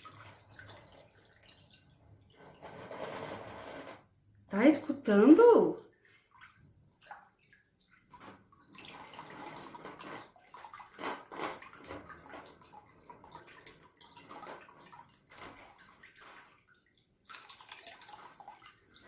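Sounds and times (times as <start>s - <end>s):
water splashing in a basin: 0.0s - 2.6s, 5.1s - 19.0s.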